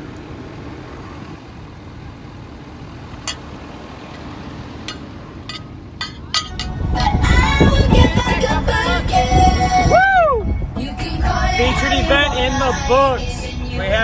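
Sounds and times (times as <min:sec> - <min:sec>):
motor vehicle rumbling: 0:00.0 - 0:14.0.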